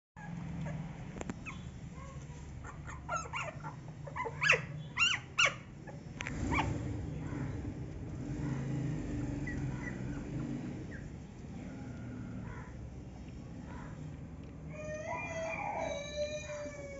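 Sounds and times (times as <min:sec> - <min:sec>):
puppies whimpering: 0:00.2 - 0:12.8, 0:14.7 - 0:16.9.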